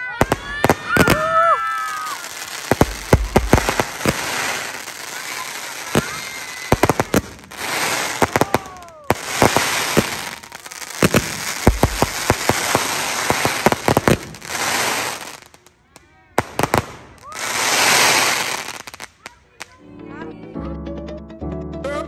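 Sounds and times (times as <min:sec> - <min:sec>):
whistling fireworks: 0:00.0 - 0:15.7, 0:16.4 - 0:19.8
crackling hiss: 0:00.0 - 0:19.8
fireworks bangs: 0:00.0 - 0:19.8.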